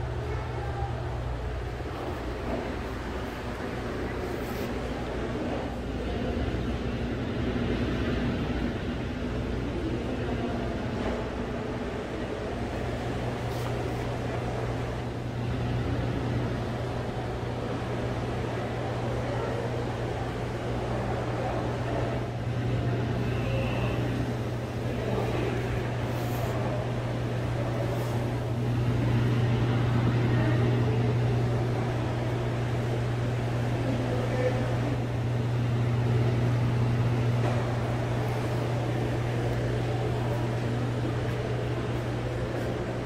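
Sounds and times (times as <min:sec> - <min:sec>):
low mechanical hum: 0:00.0 - 0:43.0
murmur of distant voices: 0:00.0 - 0:43.0.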